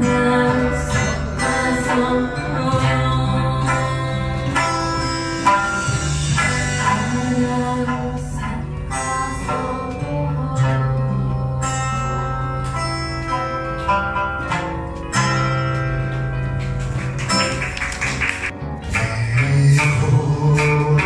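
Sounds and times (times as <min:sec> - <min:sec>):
plucked lute and acoustic guitar: 0:00.0 - 0:21.0.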